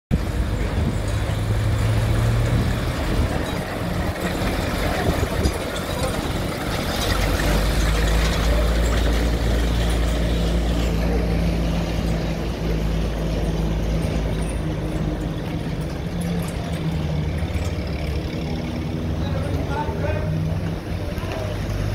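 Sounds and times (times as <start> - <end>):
vehicle engine rumble: 0.1 - 21.9.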